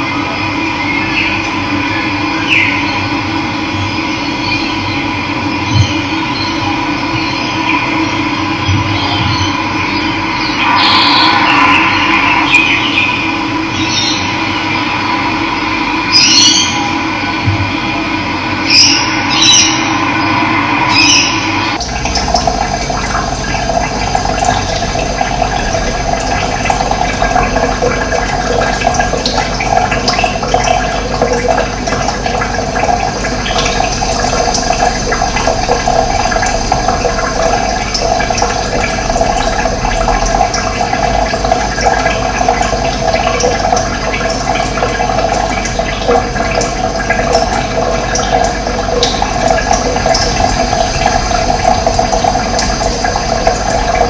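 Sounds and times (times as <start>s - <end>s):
running water gurgling: 0.0s - 54.0s.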